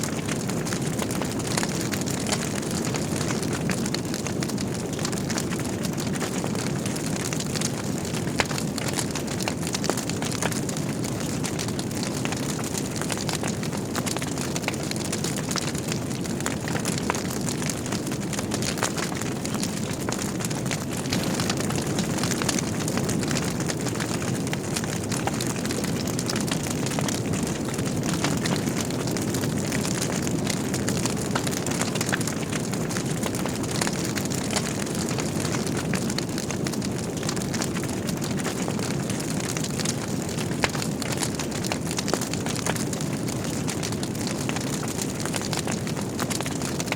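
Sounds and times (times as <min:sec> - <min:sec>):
fire crackles and pops: 0:00.0 - 0:46.9
flames rumbling: 0:00.0 - 0:46.9.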